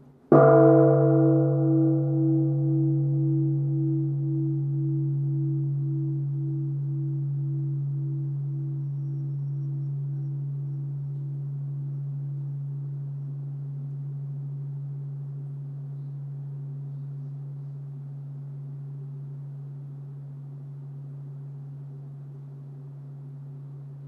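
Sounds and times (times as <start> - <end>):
large temple bell ringing: 0.3 - 23.5.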